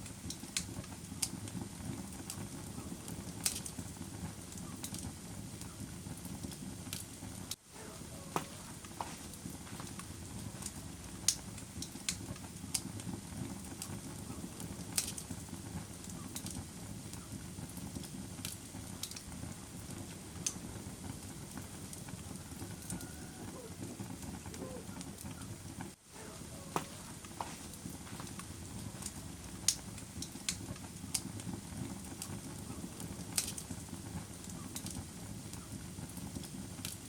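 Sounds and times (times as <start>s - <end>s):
fire crackling and popping: 0.0s - 37.0s
fire flames rumbling: 0.0s - 37.0s.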